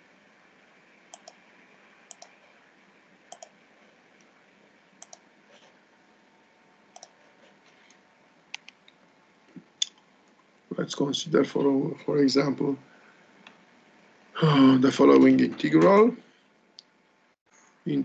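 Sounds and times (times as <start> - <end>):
low steady hiss: 0.0 - 18.0.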